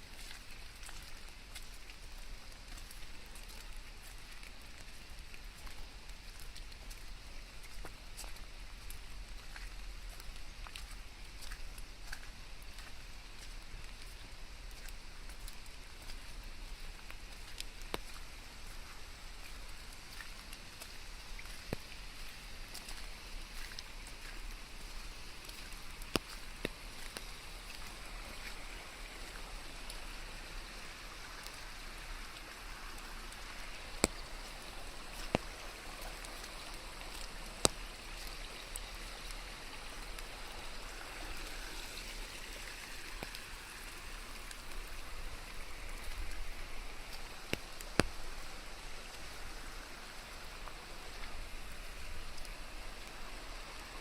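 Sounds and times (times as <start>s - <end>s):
steady rain falling: 0.0s - 54.0s
sharp drips: 0.1s - 54.0s.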